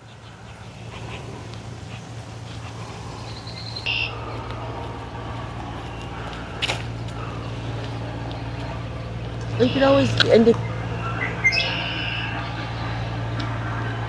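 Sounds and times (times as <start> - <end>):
bird chirp: 0.0 - 14.0
engine humming: 0.0 - 14.0.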